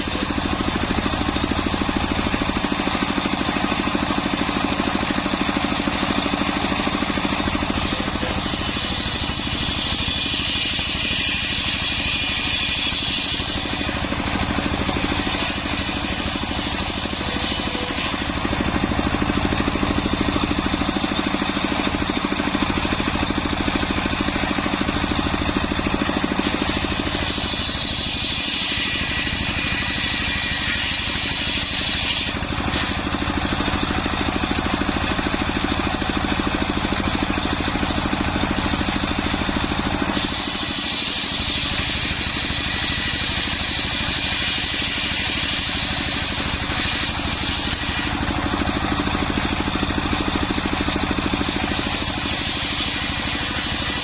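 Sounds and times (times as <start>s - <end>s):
circular saw running: 0.0s - 54.0s
saw blade cutting wood: 0.0s - 54.0s.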